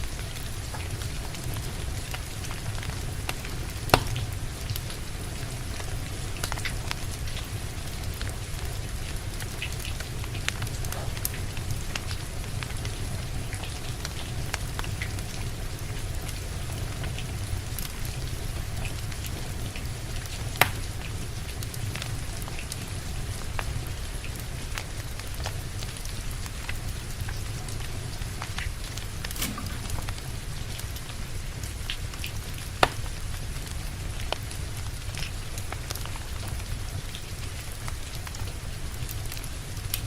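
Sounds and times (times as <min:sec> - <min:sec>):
steady rain: 0:00.0 - 0:40.0
wood fire crackling: 0:00.0 - 0:40.0.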